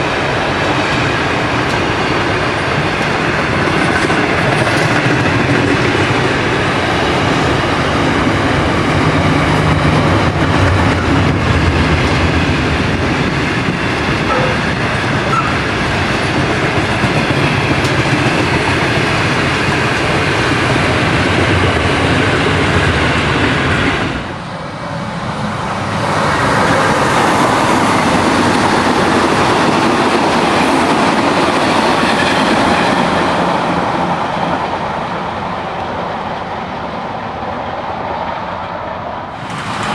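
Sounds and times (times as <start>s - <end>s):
diesel railcar passing: 0.0s - 39.9s
electric train rolling rumble: 0.0s - 39.9s.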